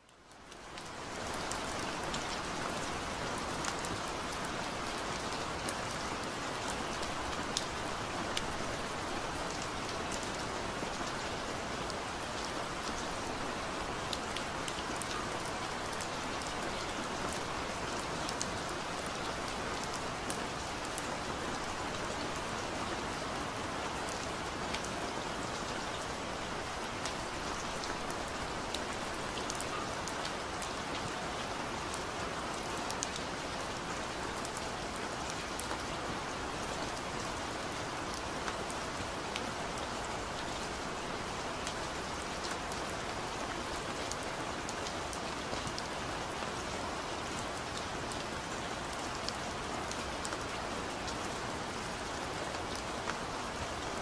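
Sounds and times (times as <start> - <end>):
patter of raindrops: 0.0 - 54.0
rain falling: 0.0 - 54.0.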